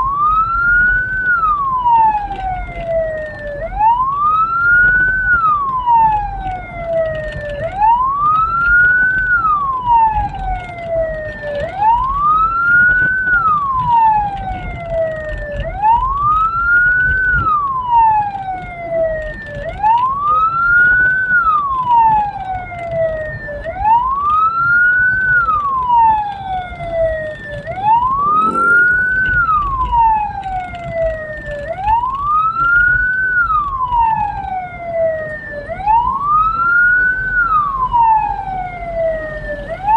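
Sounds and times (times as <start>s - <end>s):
siren wailing: 0.0s - 39.9s
vehicle low rumble: 0.0s - 39.9s.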